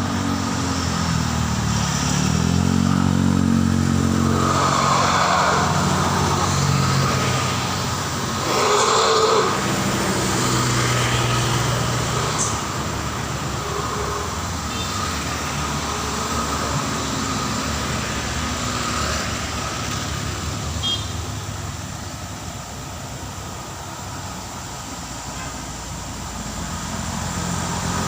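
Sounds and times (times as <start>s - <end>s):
heavy vehicle engine passing: 0.0s - 28.0s
traffic hum: 0.0s - 28.0s.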